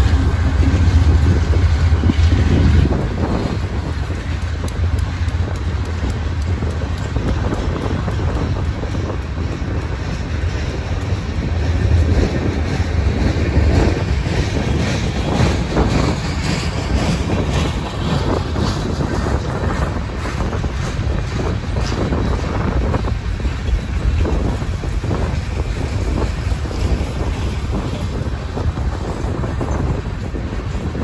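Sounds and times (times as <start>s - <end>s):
clicking over rail joints: 0.0s - 31.0s
train wheels rumbling on rail: 0.0s - 31.0s.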